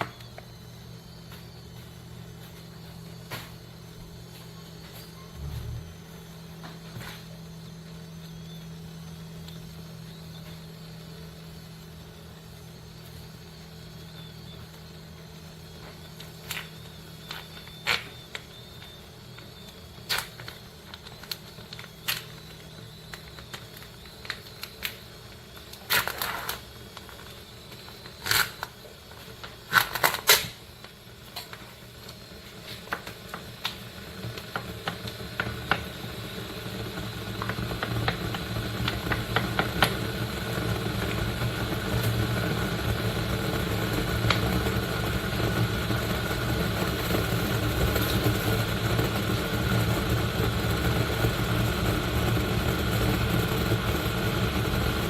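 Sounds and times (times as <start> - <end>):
kettle rushing rumble: 0.0 - 55.0.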